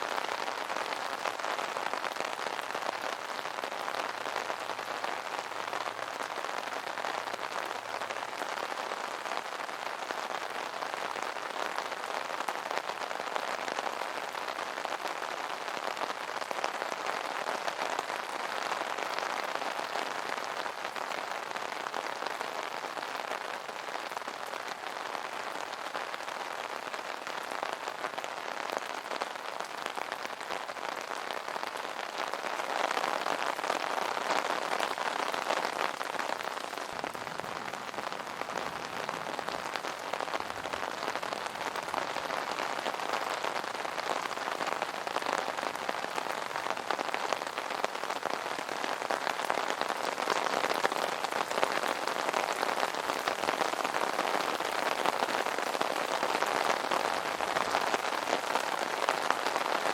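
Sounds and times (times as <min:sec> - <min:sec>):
rain drumming on an umbrella: 0:00.0 - 0:59.9.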